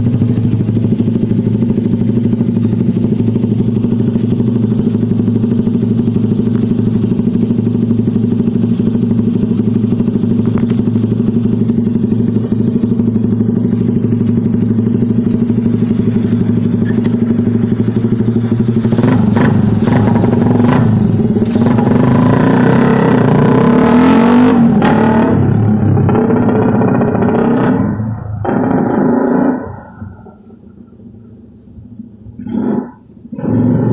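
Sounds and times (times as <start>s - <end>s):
motorcycle idling and revving: 0.0s - 33.9s.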